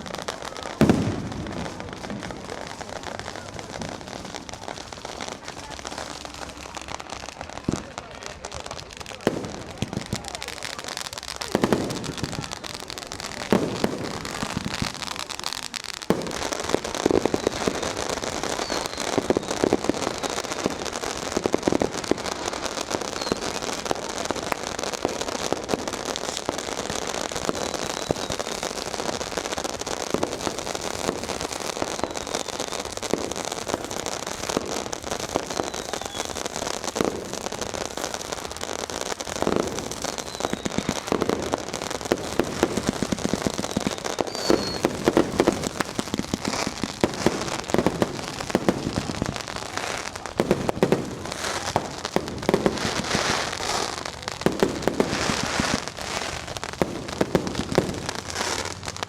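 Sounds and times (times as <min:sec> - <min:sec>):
firecrackers crackling: 0:00.0 - 0:59.0
fireworks booming: 0:00.0 - 0:59.0.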